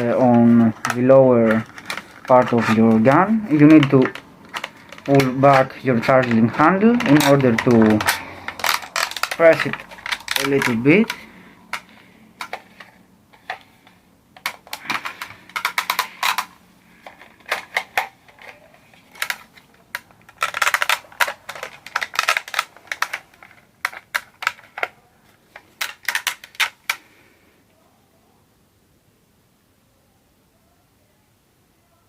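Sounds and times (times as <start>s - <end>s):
rifle parts clicking: 0.0s - 24.9s, 25.5s - 27.1s.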